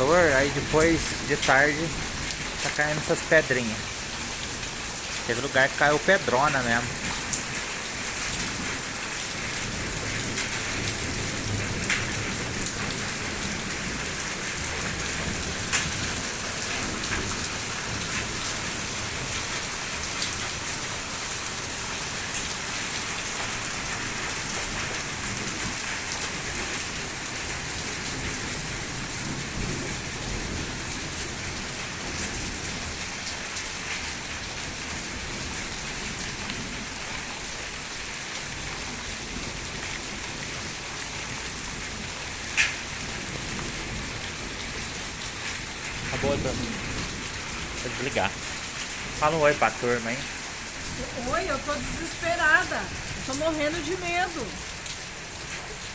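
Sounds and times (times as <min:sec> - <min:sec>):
heavy rain with hail: 0:00.0 - 0:55.9.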